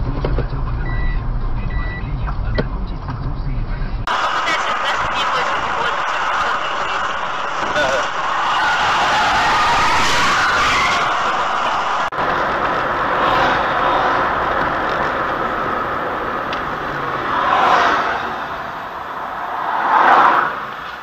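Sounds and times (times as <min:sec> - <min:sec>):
tyre and wind road noise: 0:00.0 - 0:21.0.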